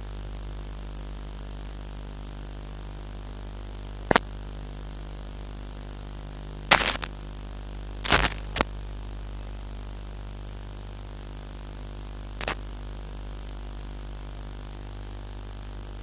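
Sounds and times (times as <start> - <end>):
electrical hum through speakers: 0.0 - 16.0.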